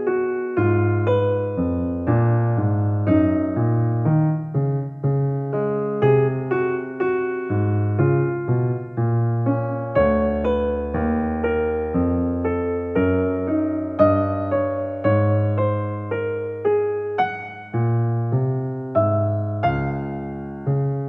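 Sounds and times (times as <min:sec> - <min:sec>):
electric piano music: 0:00.0 - 0:21.0.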